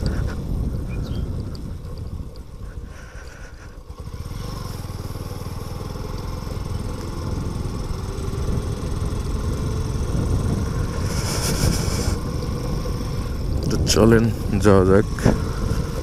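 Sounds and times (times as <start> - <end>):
motorcycle engine on dirt track: 0.0 - 16.0.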